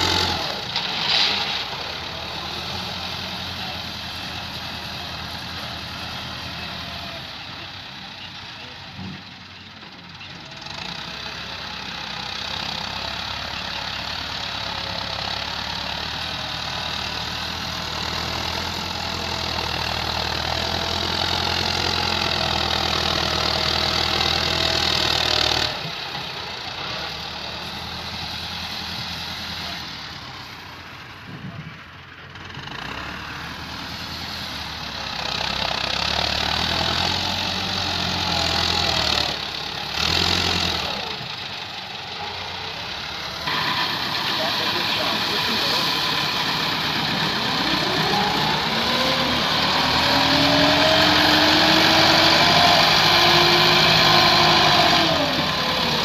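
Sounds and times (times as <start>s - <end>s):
diesel tractor engine straining: 0.0s - 56.0s.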